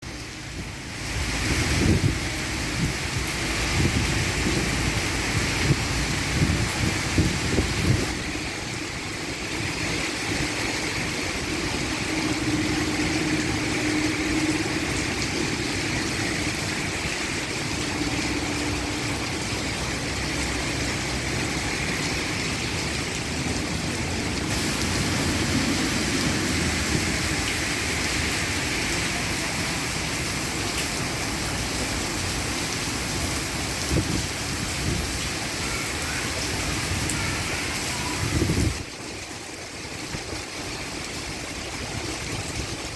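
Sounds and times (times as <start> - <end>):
heavy rain drumming on a roof: 0.0 - 42.9
runoff pouring off eaves: 0.0 - 42.9.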